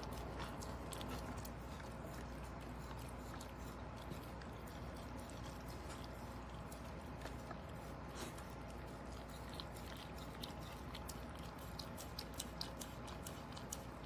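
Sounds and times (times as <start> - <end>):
dog chewing and licking food: 0.0 - 14.0.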